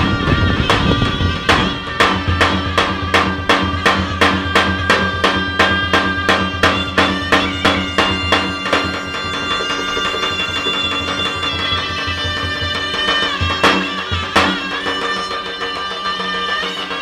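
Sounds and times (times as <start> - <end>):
drum beating even rhythm: 0.0 - 17.0
shawms playing reedy notes: 0.0 - 17.0.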